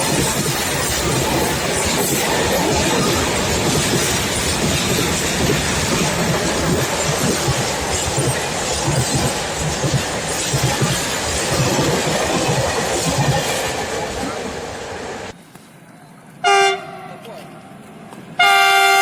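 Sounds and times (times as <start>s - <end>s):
freight train wheels rumbling: 0.0s - 15.4s.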